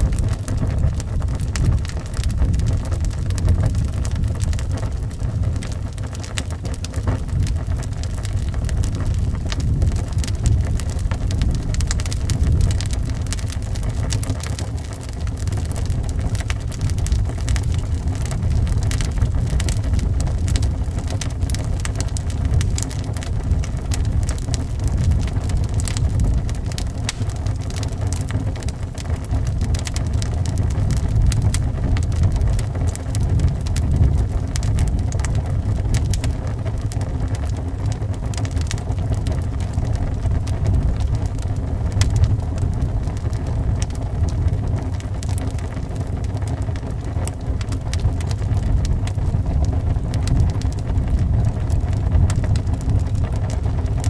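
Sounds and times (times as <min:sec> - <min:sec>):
howling wind: 0:00.0 - 0:54.0
wood fire crackling: 0:00.0 - 0:54.0.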